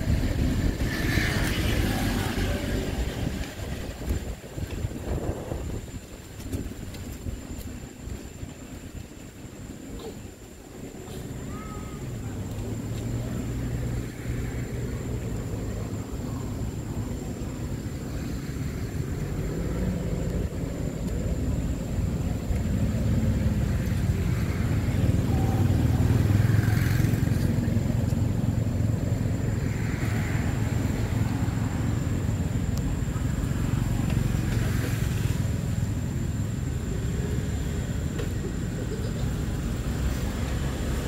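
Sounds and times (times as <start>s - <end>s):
vehicle engine rumbling: 0.0s - 41.0s.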